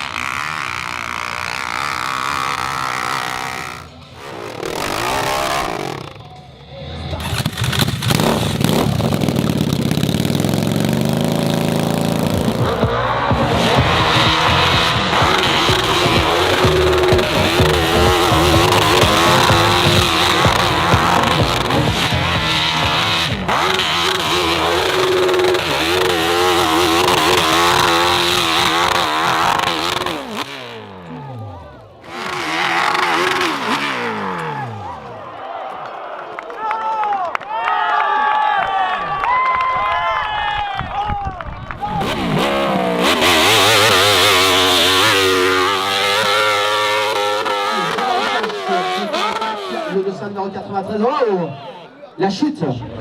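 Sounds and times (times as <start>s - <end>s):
motocross bike engine revving: 0.0s - 35.4s, 41.8s - 51.3s.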